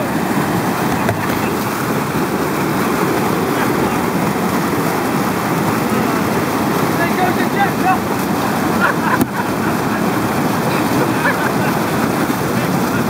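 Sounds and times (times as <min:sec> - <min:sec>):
white water rushing: 0:00.0 - 0:13.0.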